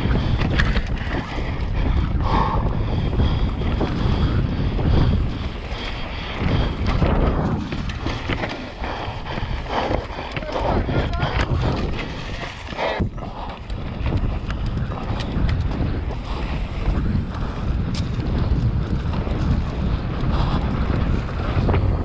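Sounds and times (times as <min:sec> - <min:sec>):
bike clicking and rattling: 0:00.0 - 0:22.0
bike tyres on dirt: 0:00.0 - 0:22.0
wind buffeting microphone: 0:00.0 - 0:22.0.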